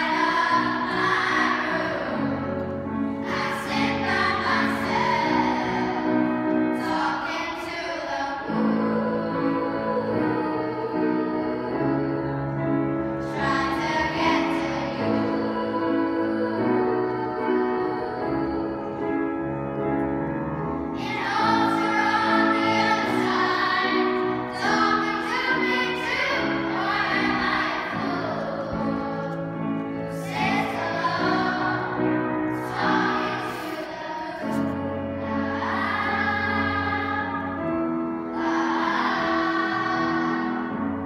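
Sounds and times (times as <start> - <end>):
children's choir singing: 0.0 - 41.0.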